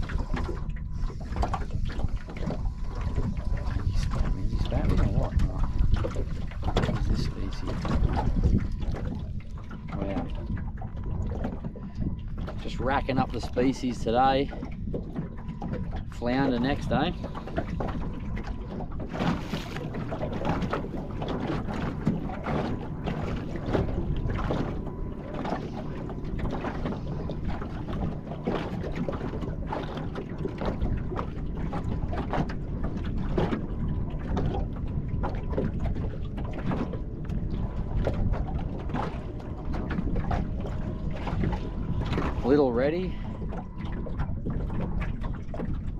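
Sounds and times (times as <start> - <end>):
waves lapping against boat hull: 0.0 - 45.9
wind rumble on microphone: 0.0 - 45.9.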